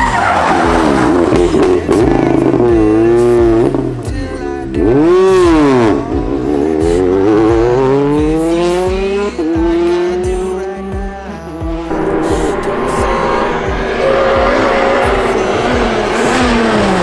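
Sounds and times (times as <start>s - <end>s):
rally car engine revving: 0.0s - 10.7s, 11.6s - 17.0s.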